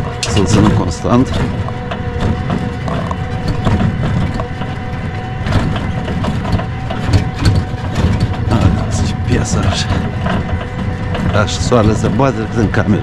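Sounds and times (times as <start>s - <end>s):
frame rattling and knocking: 0.0s - 13.0s
tricycle drive whining: 0.0s - 13.0s.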